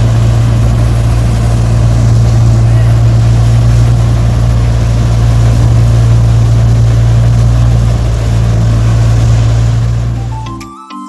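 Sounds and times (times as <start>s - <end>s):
combine harvester drone: 0.0s - 10.6s.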